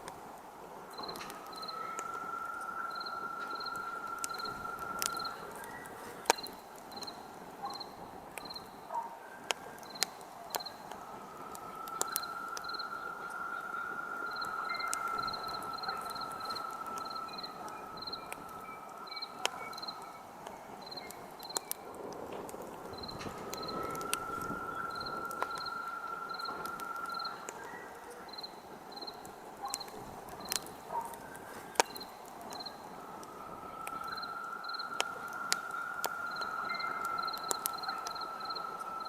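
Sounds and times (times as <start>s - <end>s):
campfire crackling: 0.0s - 39.0s
crickets chirping: 0.0s - 39.0s.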